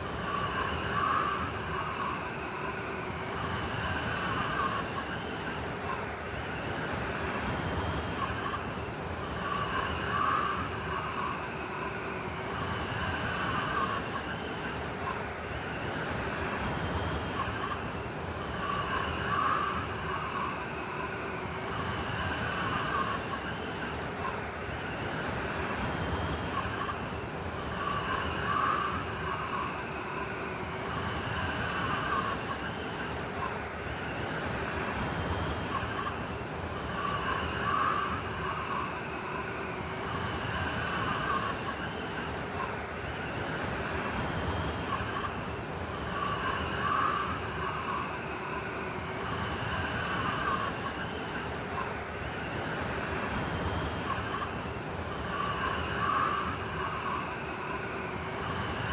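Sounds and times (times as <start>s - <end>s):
blizzard wind whistling: 0.0s - 58.9s.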